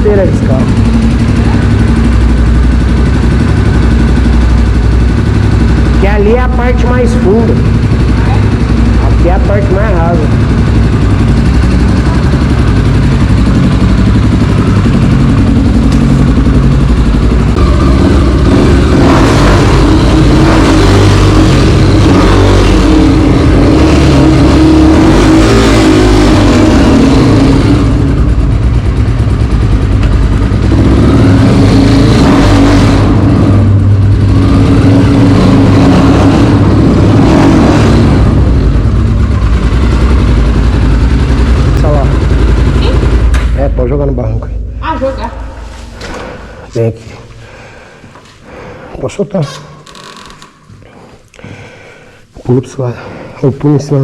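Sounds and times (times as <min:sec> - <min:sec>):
dirt bike engine revving: 0:00.0 - 0:43.6.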